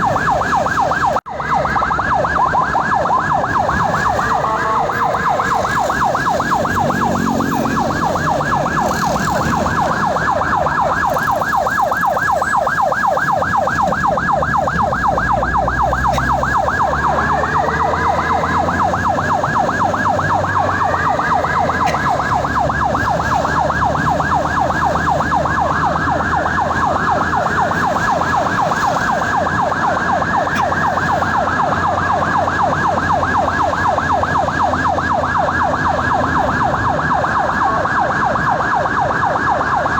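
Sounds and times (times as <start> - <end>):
ambulance siren yelping: 0.0 - 39.9
faint wailing siren: 0.0 - 39.9
vehicle rumble on road: 0.0 - 39.9.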